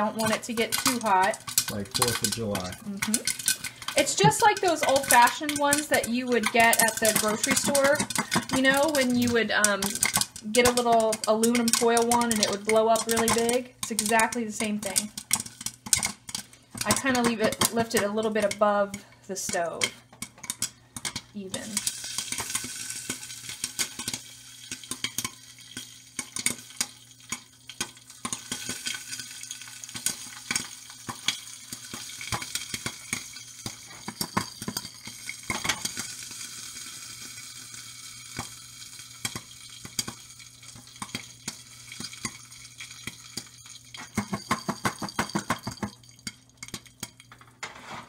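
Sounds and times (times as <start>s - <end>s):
popcorn popping: 0.0s - 47.7s
oil sizzling: 0.0s - 48.0s
pan rattling: 0.0s - 48.0s.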